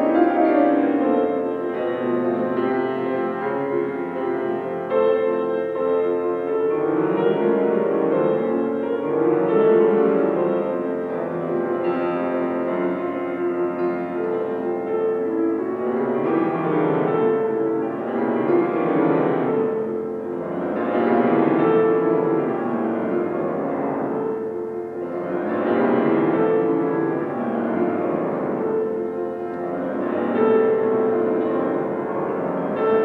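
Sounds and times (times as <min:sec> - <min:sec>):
solo piano classical music: 0:00.0 - 0:33.0.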